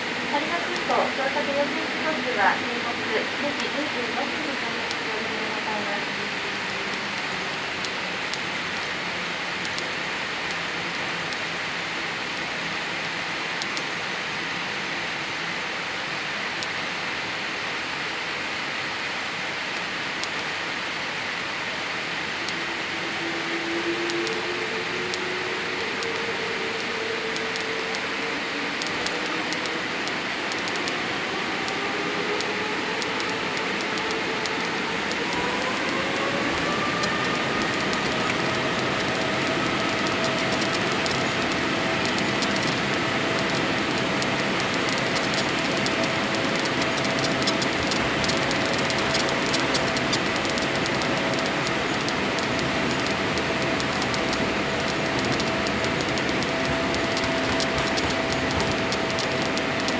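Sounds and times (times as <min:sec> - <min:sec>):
jet engine roar: 0:00.0 - 0:59.9
jet engines whining: 0:00.0 - 0:59.9.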